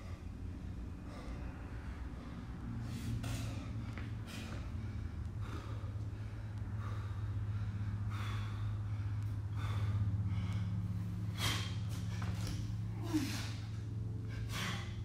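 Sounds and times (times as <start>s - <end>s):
person breathing heavily: 0.0s - 15.0s
steady low hum: 0.0s - 15.0s.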